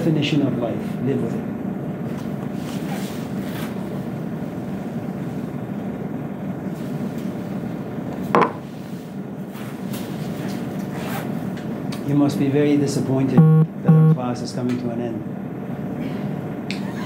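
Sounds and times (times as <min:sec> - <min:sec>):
low rumble of room noise: 0:00.0 - 0:10.8, 0:11.4 - 0:17.0.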